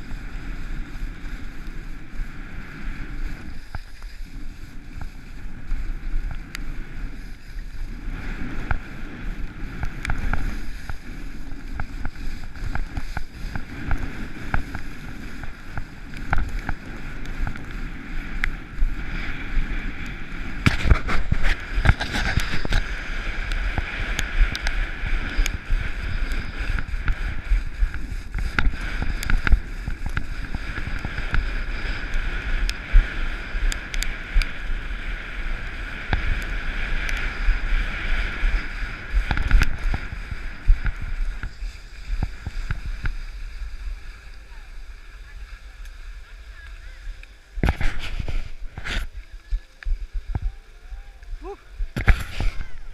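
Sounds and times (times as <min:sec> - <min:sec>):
skis scraping on snow: 0:00.0 - 0:52.9
wind buffeting microphone: 0:00.0 - 0:52.9.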